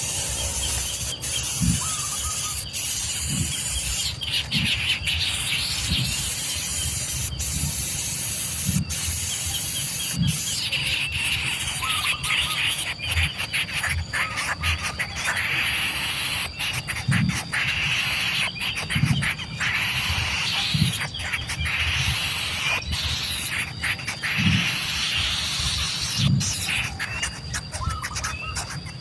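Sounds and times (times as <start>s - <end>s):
baby birds begging squeals: 0.0s - 29.0s
high insect drone: 0.0s - 29.0s.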